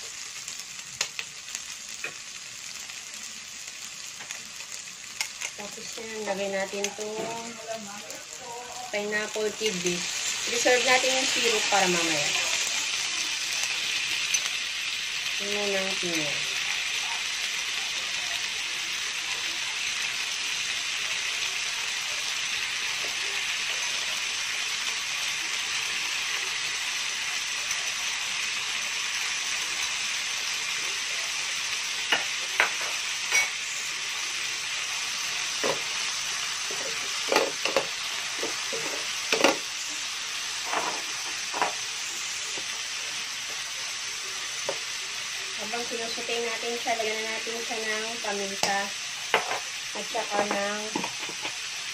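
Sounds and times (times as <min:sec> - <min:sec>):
vegetables sizzling in oil: 0:00.0 - 0:51.9.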